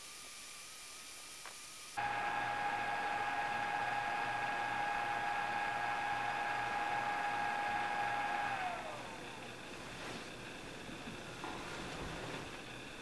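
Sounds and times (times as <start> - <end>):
cooling fan whine: 2.0 - 13.0.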